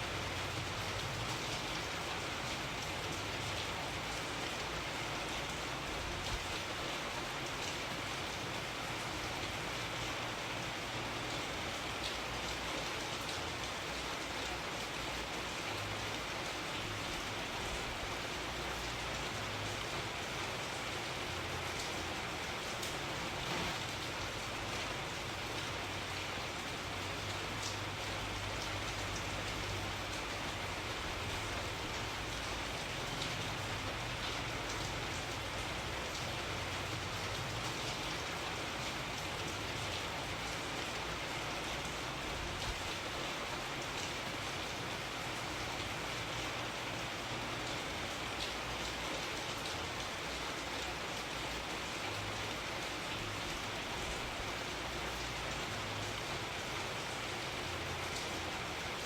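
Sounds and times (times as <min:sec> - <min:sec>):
rain hissing: 0:00.0 - 0:59.0.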